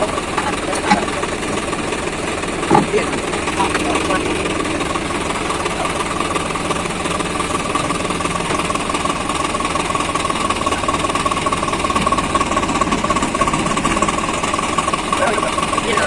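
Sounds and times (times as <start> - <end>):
high whine: 0.0 - 16.0
tractor diesel engine running: 0.0 - 16.0.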